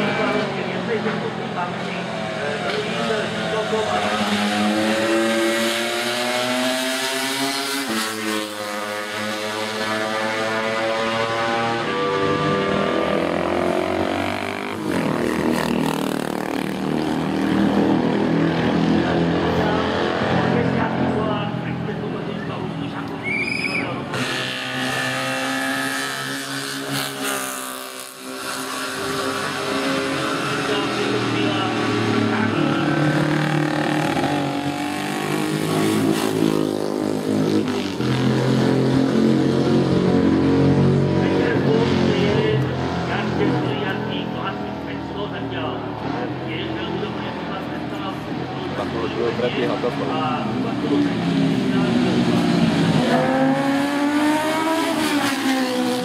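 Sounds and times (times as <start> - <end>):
racing motorcycle passing by: 0.0 - 22.4, 23.2 - 56.0.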